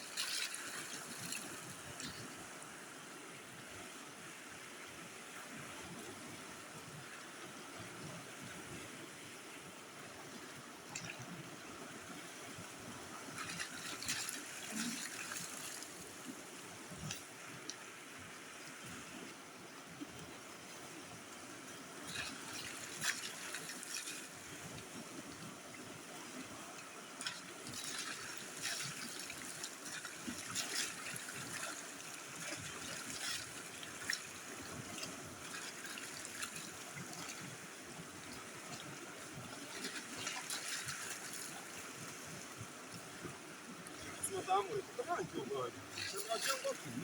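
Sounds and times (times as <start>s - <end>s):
water trickling and splashing: 0.0s - 47.0s.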